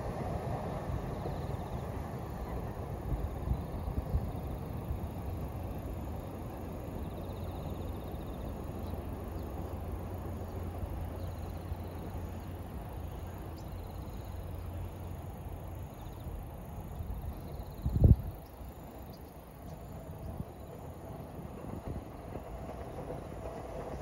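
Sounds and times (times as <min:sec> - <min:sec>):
train rumbling on viaduct: 0:00.0 - 0:24.0
faint insect chirps: 0:00.2 - 0:24.0.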